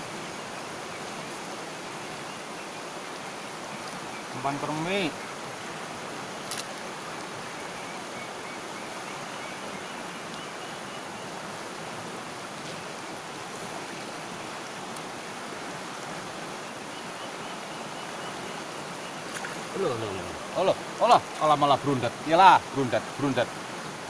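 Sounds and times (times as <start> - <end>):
river rushing around boulders: 0.0 - 24.0.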